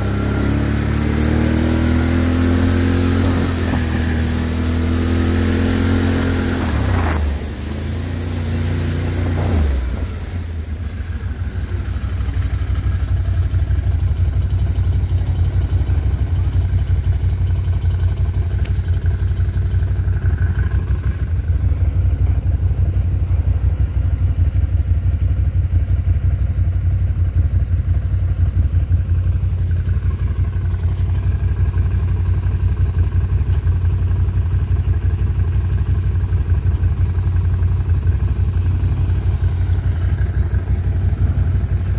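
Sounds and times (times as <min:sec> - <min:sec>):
atv engine idling: 0:00.0 - 0:41.9.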